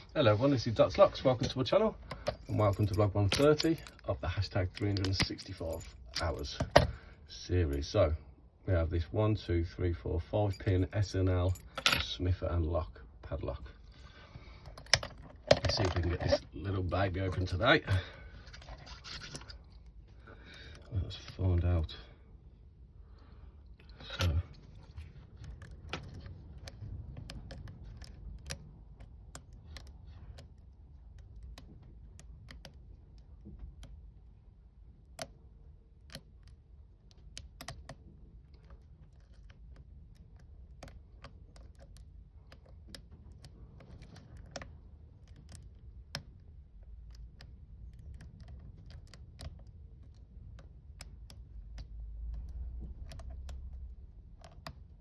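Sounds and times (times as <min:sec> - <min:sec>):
lock pick clicking and scraping: 0:00.0 - 0:07.1, 0:13.8 - 0:21.8, 0:23.6 - 0:34.3, 0:34.9 - 0:55.0
low steady rumble: 0:00.0 - 0:55.0.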